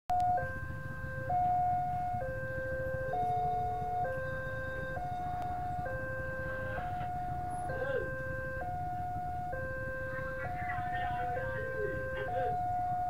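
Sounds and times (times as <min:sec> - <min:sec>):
level crossing alarm two-tone: 0:00.1 - 0:13.0.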